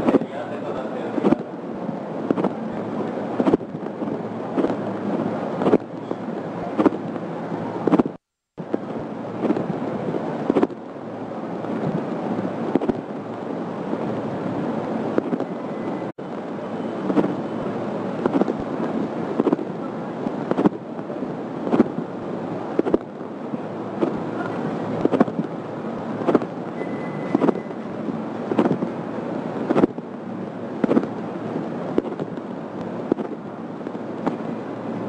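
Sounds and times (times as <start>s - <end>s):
gusts buffeting microphone: 0.0s - 35.0s
wind and heavy rain: 0.0s - 35.0s.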